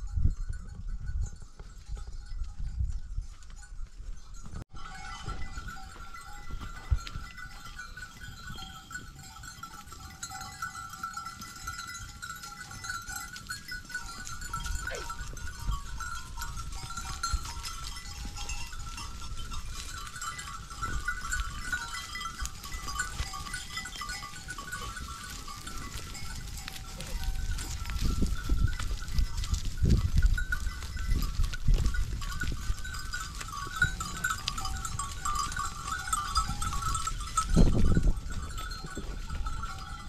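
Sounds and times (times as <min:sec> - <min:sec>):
sheep and goats calling: 0:04.8 - 0:40.0.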